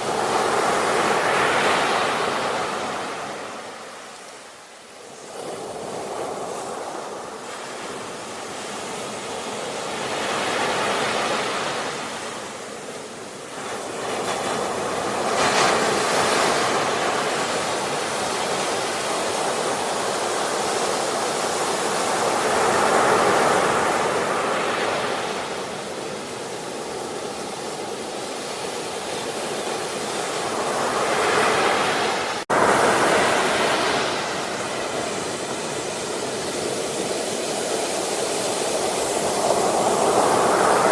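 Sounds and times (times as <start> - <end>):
ocean waves breaking: 0.0 - 4.3, 5.2 - 40.9.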